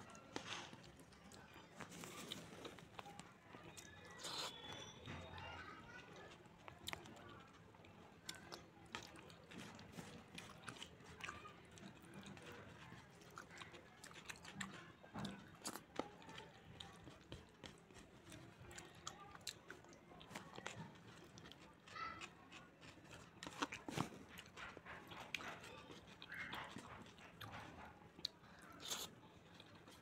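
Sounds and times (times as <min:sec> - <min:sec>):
faint chewing: 0:00.0 - 0:30.0
fingers mixing food wet clicks: 0:00.1 - 0:30.0.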